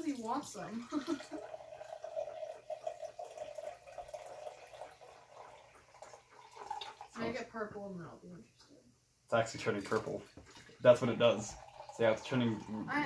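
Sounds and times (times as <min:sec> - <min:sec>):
liquid pouring between beakers: 0:00.0 - 0:07.2, 0:09.3 - 0:12.9.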